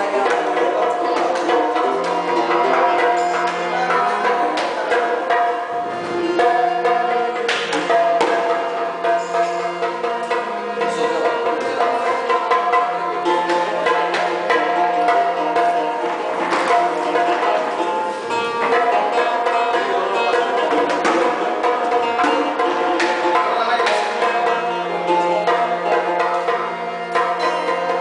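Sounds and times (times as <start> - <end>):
hand drums beating: 0.0 - 28.0
harmonium melody over drone: 0.0 - 28.0.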